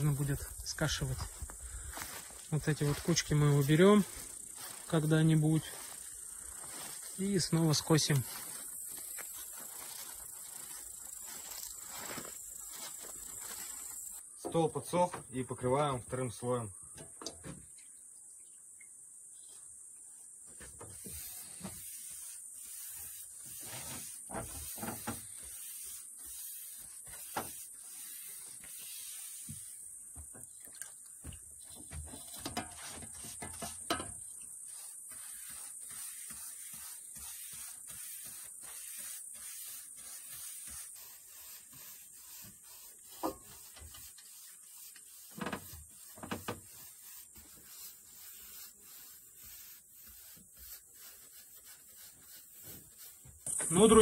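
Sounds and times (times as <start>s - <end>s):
scratchy brush strokes on wood: 0.0s - 16.7s, 19.5s - 54.0s.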